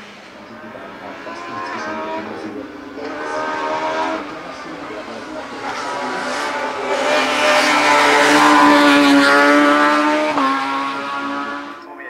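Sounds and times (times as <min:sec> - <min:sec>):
racing car engine at high revs: 0:00.0 - 0:11.9.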